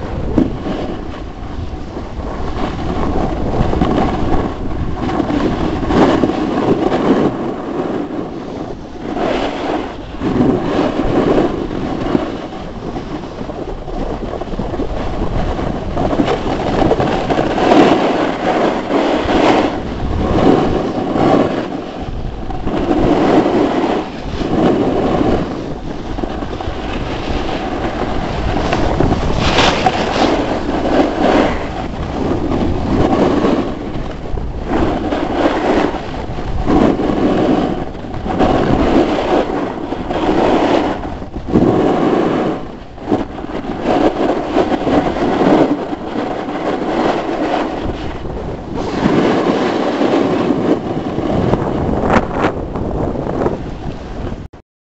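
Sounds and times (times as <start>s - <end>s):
snowboard scraping on snow: 0.0s - 54.5s
wind buffeting microphone: 0.0s - 54.6s.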